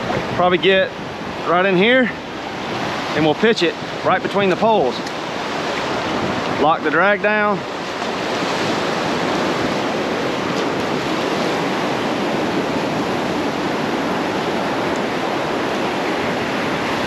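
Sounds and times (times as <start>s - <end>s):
ocean surf rushing: 0.0s - 17.0s.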